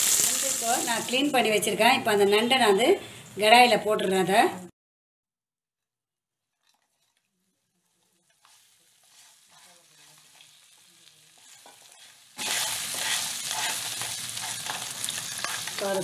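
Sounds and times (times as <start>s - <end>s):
food sizzling in hot oil: 0.0s - 3.6s, 6.7s - 16.0s.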